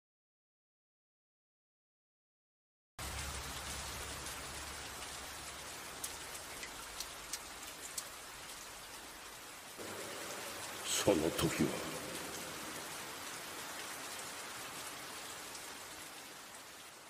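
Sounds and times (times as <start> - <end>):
rain pouring: 3.0 - 17.0
sharp raindrops clicking: 3.0 - 17.0.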